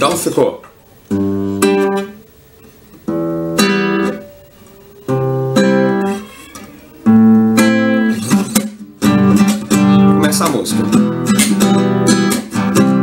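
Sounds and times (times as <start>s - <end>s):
fingerstyle classical guitar: 0.0s - 13.0s.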